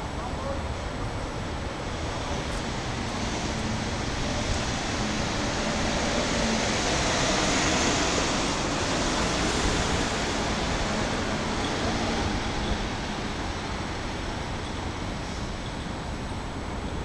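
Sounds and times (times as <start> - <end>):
outdoor rushing noise: 0.0 - 15.6.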